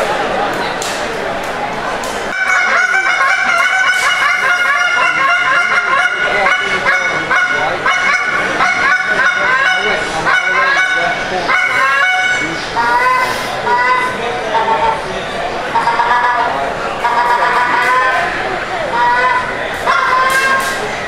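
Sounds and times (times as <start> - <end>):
goose call honks and clucks: 2.3 - 15.0, 15.7 - 20.8.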